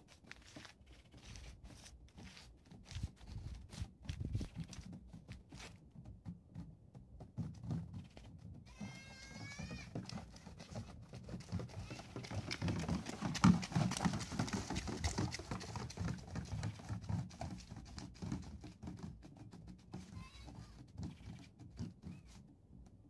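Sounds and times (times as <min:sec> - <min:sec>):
hooves on gravel road: 0:00.0 - 0:19.2.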